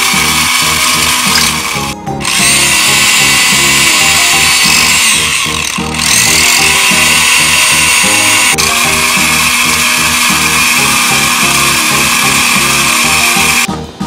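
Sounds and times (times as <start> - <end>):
background music: 0.0 - 14.0
steady high whirring: 0.0 - 14.0.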